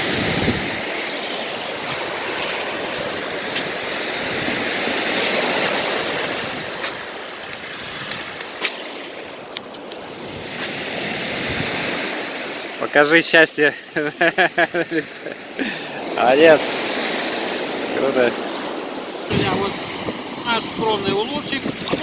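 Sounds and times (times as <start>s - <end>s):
sea surf washing ashore: 0.0s - 22.0s.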